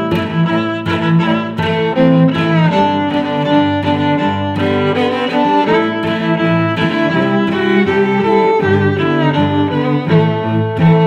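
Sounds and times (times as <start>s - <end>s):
cello: 0.0s - 11.0s
violin: 0.0s - 11.0s.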